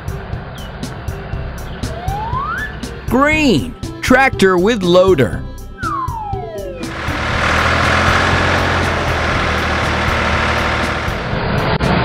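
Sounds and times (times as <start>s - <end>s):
tractor engine droning: 1.3s - 12.0s.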